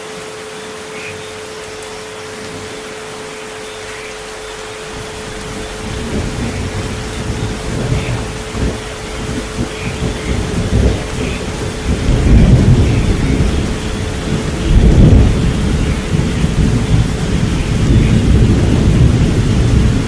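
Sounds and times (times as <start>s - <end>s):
steady pure tone: 0.0s - 19.0s
steady rain: 0.0s - 20.0s
thunder rumbling: 2.2s - 20.0s.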